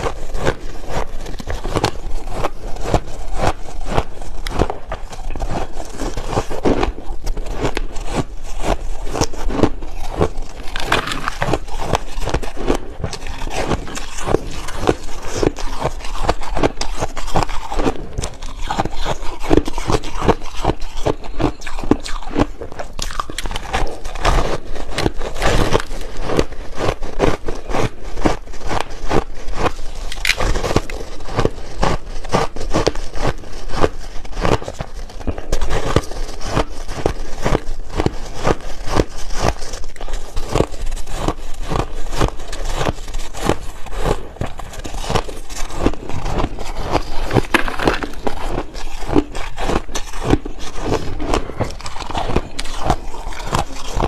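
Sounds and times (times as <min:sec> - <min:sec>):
crushed ice being chewed: 0:00.0 - 0:54.0.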